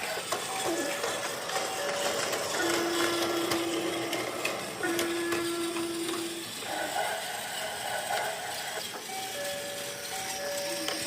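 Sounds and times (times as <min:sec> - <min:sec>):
toy train motor whirring: 0:00.0 - 0:11.0
wheels clicking on plastic track: 0:00.0 - 0:11.0.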